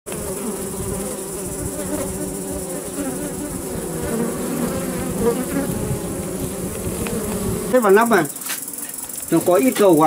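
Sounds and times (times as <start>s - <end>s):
honeybees buzzing: 0.1s - 10.0s.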